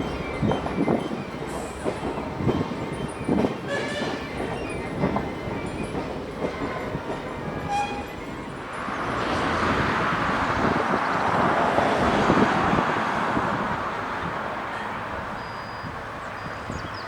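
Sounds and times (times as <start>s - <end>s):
train running: 0.0s - 17.0s.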